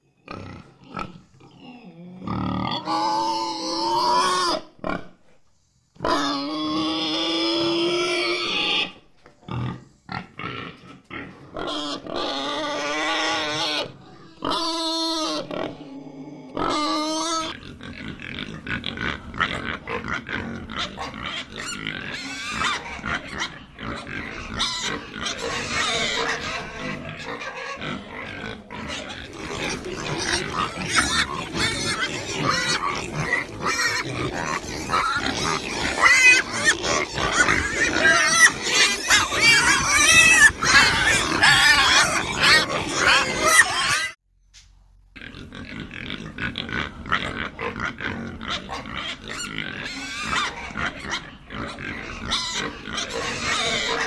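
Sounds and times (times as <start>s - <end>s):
pigs calling: 0.2s - 5.1s, 6.0s - 44.2s, 45.2s - 54.0s.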